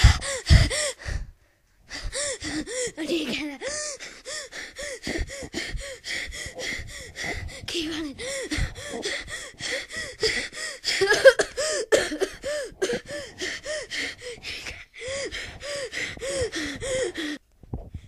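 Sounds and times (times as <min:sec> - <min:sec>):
person panting: 0:00.0 - 0:17.4.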